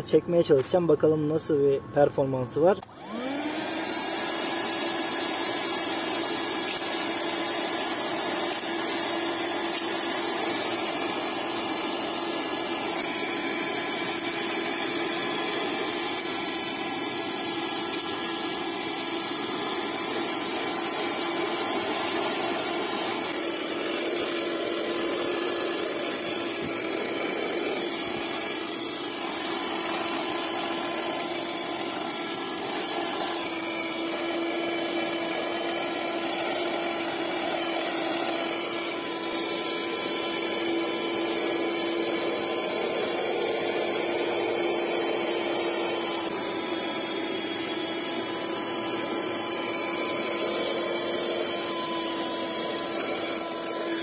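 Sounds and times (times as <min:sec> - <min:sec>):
hand vacuum motor whine: 0:02.6 - 0:54.0
vacuum nozzle sucking grit: 0:02.8 - 0:54.0.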